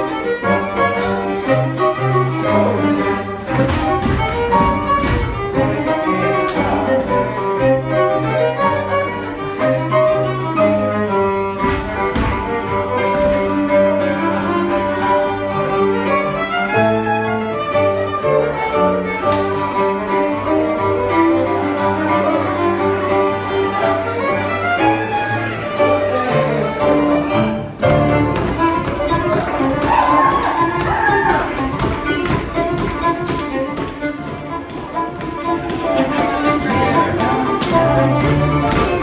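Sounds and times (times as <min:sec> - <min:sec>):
fiddles playing dance tune: 0:00.0 - 0:39.0.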